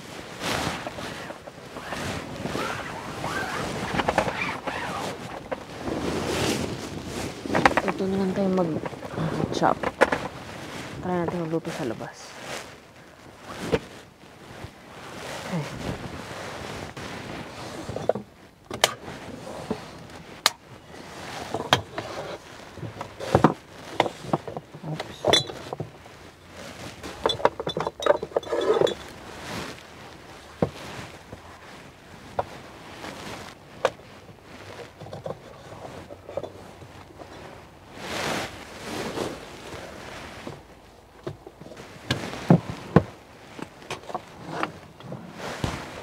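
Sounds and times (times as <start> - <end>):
steady background hiss: 0.0 - 46.0.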